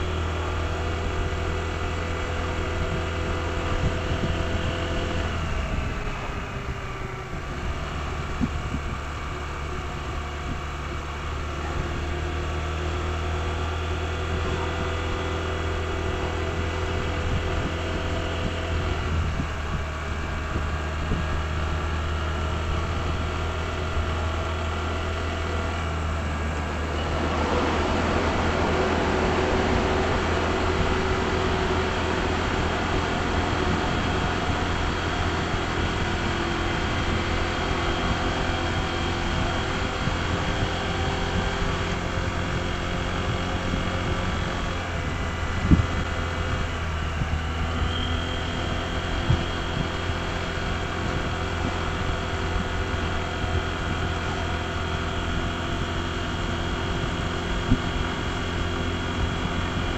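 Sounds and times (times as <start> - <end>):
road and wind noise: 0.0 - 59.9
scooter engine running: 0.0 - 59.9.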